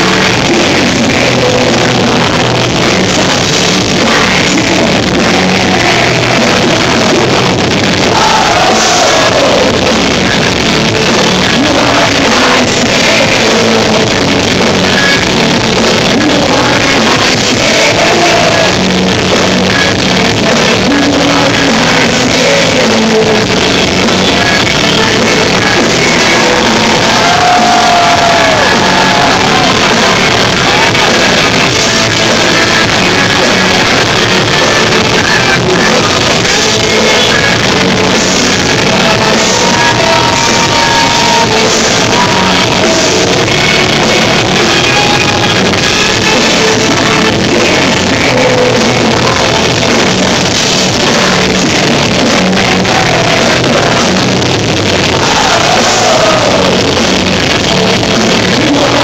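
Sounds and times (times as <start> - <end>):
distorted rock band playing: 0.0 - 59.0.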